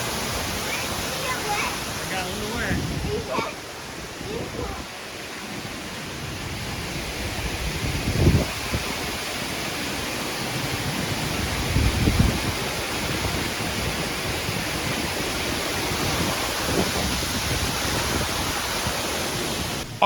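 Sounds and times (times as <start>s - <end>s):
falling water rushing: 0.0s - 20.0s.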